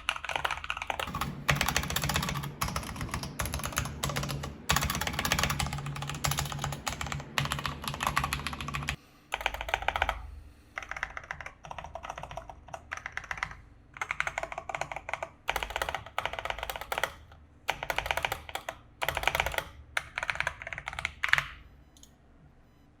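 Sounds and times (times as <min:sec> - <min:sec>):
typing on mechanical keyboard: 0:00.0 - 0:10.2, 0:10.8 - 0:21.6.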